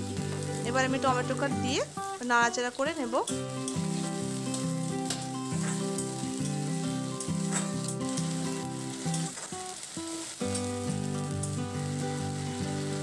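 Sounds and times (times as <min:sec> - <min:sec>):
food sizzling in hot oil: 0:00.0 - 0:13.0
soft background music: 0:00.0 - 0:13.0.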